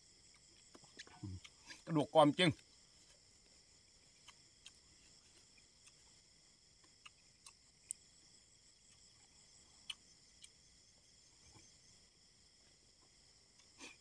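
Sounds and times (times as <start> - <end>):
crickets and insects chirring: 0.0 - 14.0.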